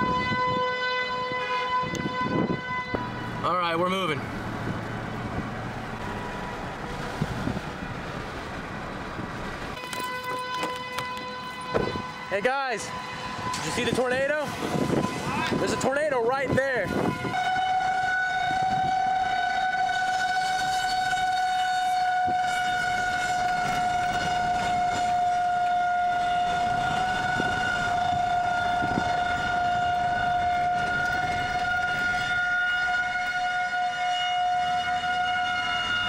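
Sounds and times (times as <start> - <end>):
warning siren steady tone: 0.0 - 4.3, 9.7 - 36.0
low road noise: 0.0 - 36.0.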